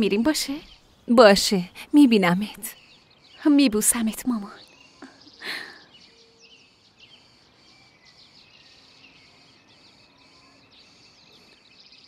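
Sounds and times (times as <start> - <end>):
garden ambience: 0.0 - 12.0
small birds chirping: 0.0 - 12.0.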